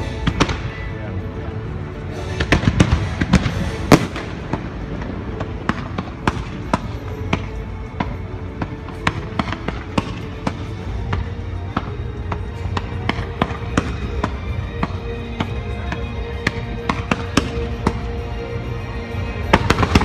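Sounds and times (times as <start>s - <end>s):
fireworks bangs: 0.0s - 0.9s, 2.1s - 18.3s, 19.1s - 20.0s
music: 0.0s - 20.0s.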